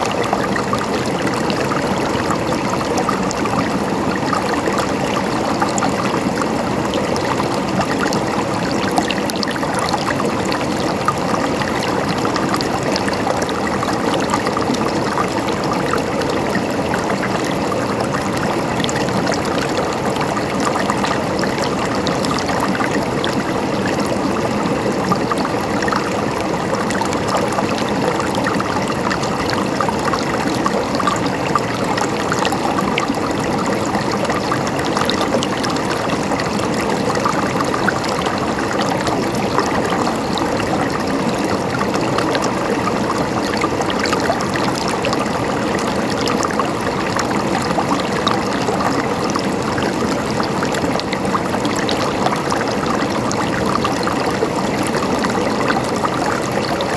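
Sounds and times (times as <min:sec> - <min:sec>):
stream gurgling and trickling: 0:00.0 - 0:56.9.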